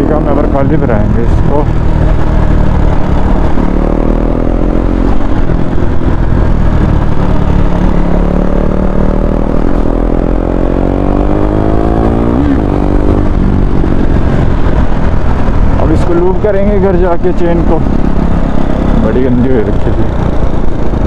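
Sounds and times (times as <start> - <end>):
motorcycle engine accelerating: 0.0 - 21.0
wind rumble on microphone: 0.0 - 21.0.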